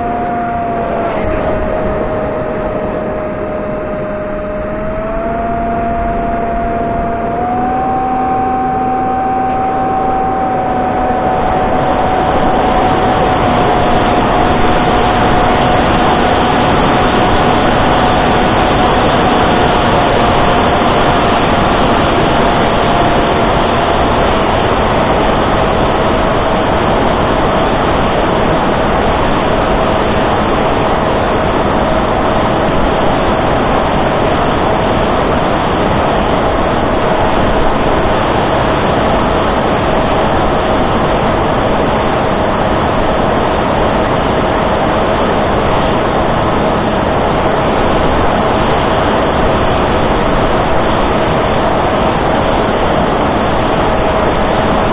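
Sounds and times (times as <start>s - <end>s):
electric motor and propeller whining: 0.0s - 54.9s
wind rush: 0.0s - 54.9s.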